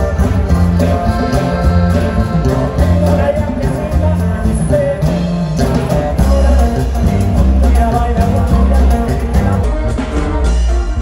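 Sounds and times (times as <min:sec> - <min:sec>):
live band with accordion: 0:00.0 - 0:11.0
person singing: 0:00.0 - 0:11.0.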